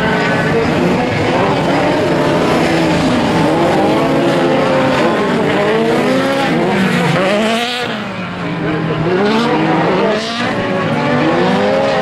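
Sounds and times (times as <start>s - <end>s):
race car engines revving hard: 0.0s - 12.0s.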